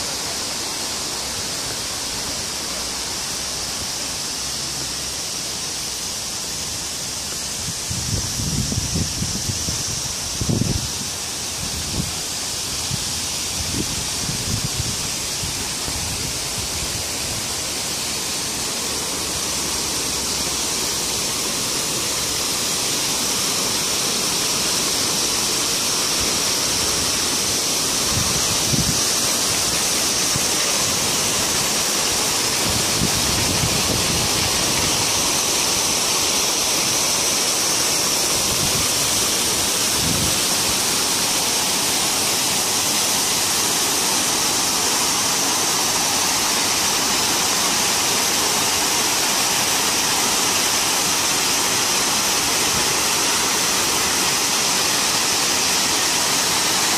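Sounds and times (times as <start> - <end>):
water falling down rocks: 0.0 - 56.9.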